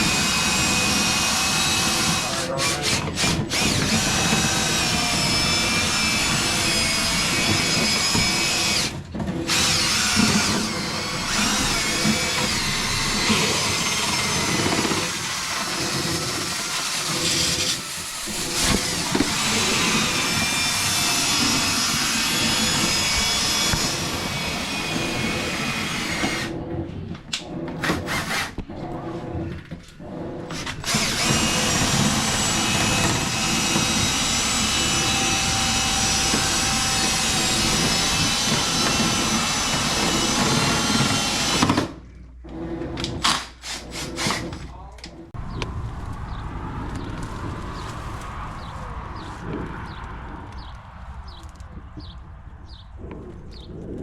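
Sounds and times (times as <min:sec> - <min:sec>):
power drill spinning brush in duct: 0:00.0 - 0:44.8, 0:45.4 - 0:50.0.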